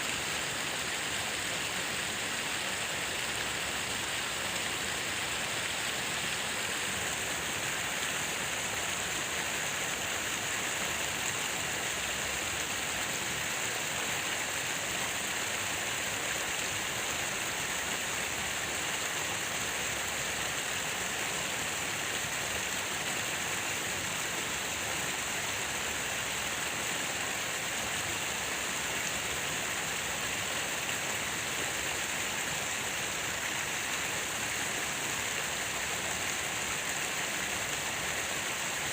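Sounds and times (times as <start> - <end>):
falling water rushing: 0.0 - 38.9.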